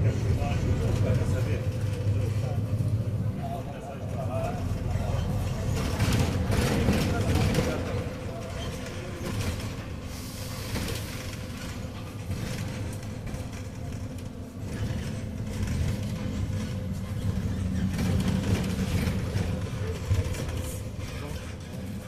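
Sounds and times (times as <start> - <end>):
passing traffic: 0.0 - 22.0
vehicle engine and road noise: 0.0 - 22.0.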